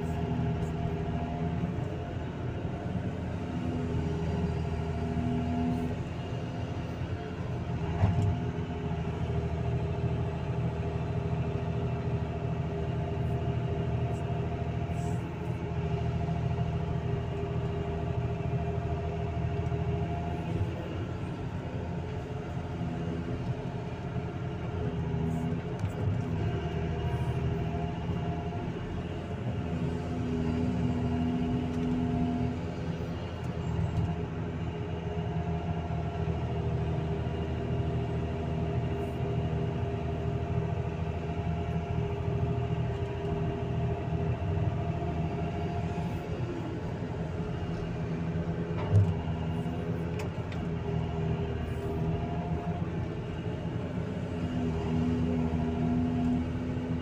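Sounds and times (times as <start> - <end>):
excavator diesel engine and hydraulics: 0.0 - 57.0.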